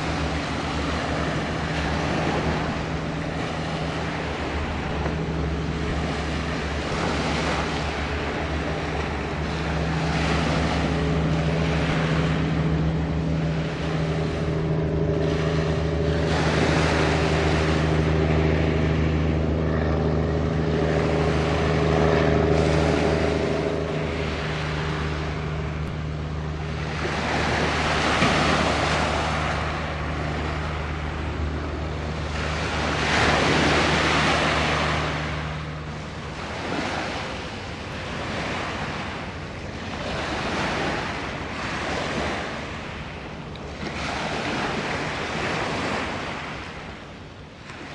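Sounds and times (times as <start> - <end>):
ship engines drone: 0.0 - 47.9
waves washing in: 0.0 - 47.9
wind buffeting microphone: 0.0 - 47.9.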